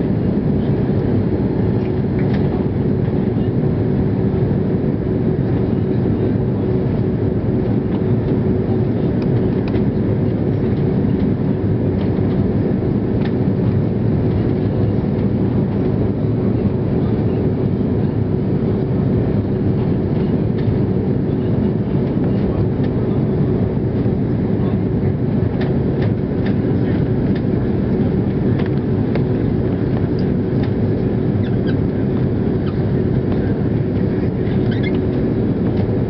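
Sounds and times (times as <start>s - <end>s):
airliner cabin engine and airflow: 0.0s - 36.0s
steady low hum: 0.0s - 36.0s.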